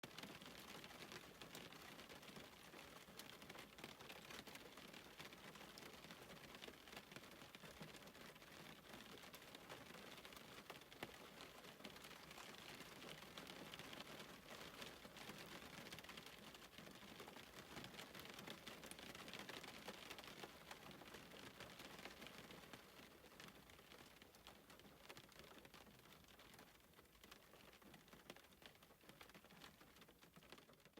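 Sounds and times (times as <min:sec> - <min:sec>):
faint rain patter: 0:00.0 - 0:30.9.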